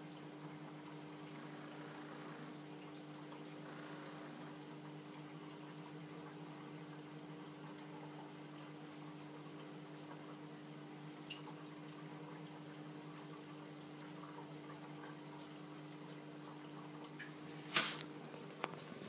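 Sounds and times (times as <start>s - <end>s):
aquarium hum: 0.0s - 19.0s
water trickling: 0.0s - 19.0s.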